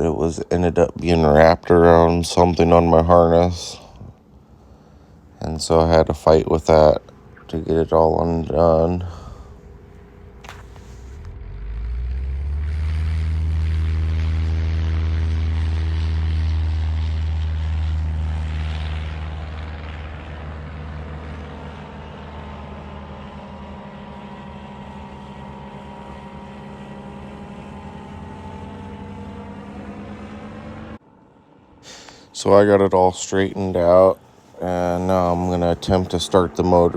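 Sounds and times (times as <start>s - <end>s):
small propeller engine running: 0.0s - 36.9s.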